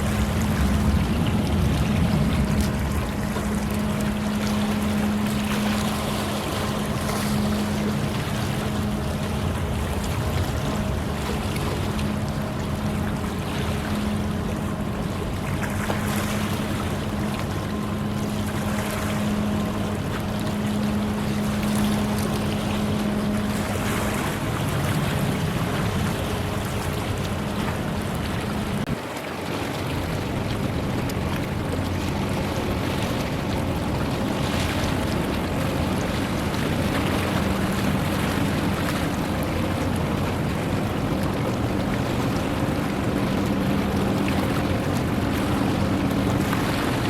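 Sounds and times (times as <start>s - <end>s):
ship engine drone: 0.0s - 47.0s
water noise: 0.0s - 47.0s
wind: 0.0s - 47.0s.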